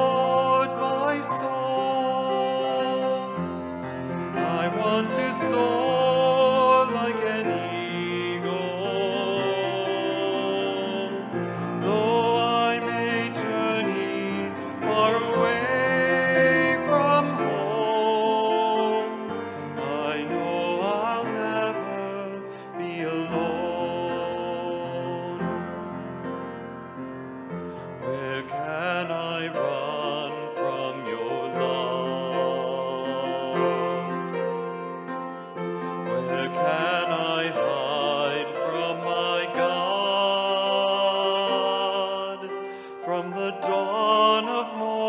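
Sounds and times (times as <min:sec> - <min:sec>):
slow hymn melody: 0:00.0 - 0:45.0.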